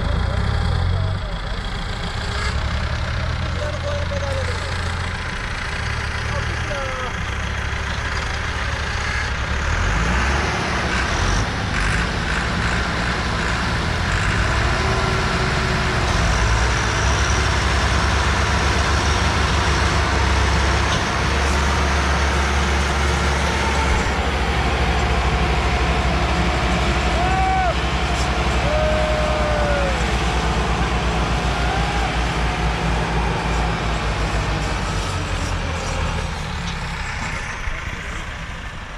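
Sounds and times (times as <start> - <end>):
tractor diesel engines under load: 0.0 - 38.9.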